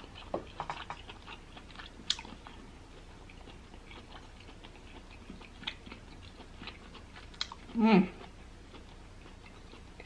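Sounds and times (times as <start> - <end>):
chewing crisp cucumber: 0.0 - 10.0.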